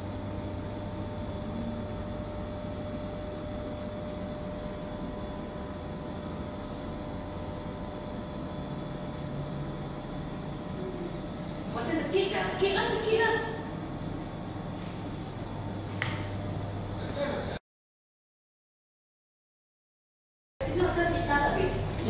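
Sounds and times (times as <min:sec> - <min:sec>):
steady mechanical hum: 0:00.0 - 0:17.6, 0:20.6 - 0:22.0.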